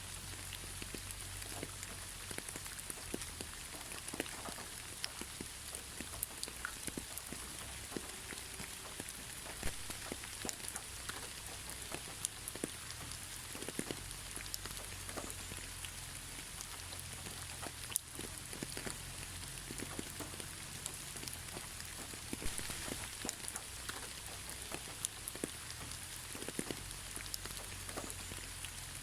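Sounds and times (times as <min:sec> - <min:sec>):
raindrops ticking on a surface: 0:00.0 - 0:29.0
steady gentle rain: 0:00.0 - 0:29.0.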